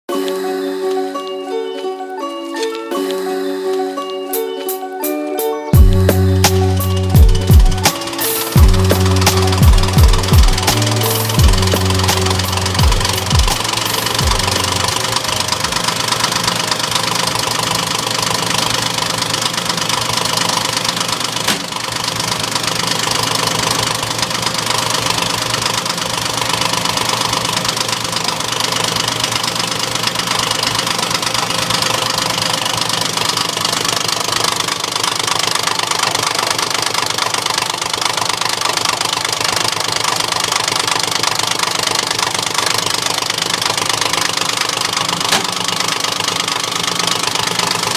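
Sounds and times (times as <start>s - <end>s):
machine knocking rhythmically: 5.8s - 47.9s.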